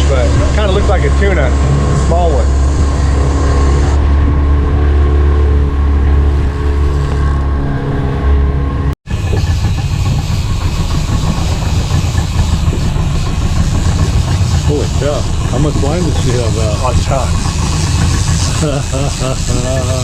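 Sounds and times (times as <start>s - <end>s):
outboard motor running: 0.0s - 20.0s
water noise: 0.0s - 20.0s
wind: 0.0s - 20.0s.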